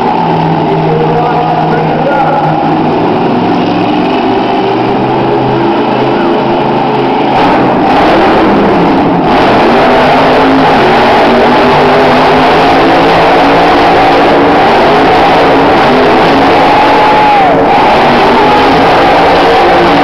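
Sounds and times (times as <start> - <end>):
monster truck engine howling: 0.0 - 20.0.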